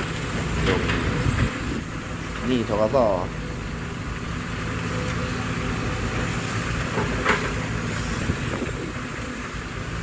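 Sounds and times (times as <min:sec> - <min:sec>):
heavy diesel machinery running: 0:00.0 - 0:10.0.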